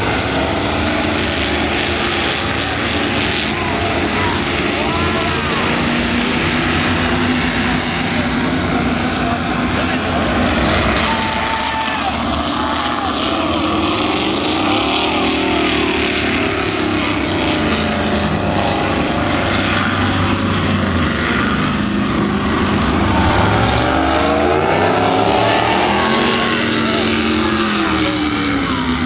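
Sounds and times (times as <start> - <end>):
racing boat engines: 0.0 - 29.0
rush of water and wind: 0.0 - 29.0.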